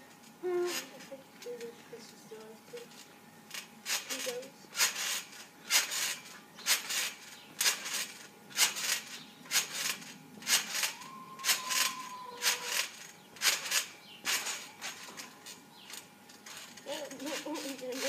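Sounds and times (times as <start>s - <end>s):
trampoline springs squeaking: 0.0s - 18.0s.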